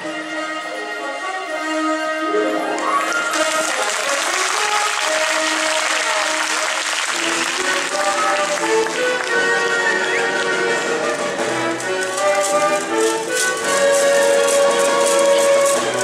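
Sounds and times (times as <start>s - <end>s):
music with held notes: 0.0s - 16.0s
crowd applauding: 2.5s - 16.0s.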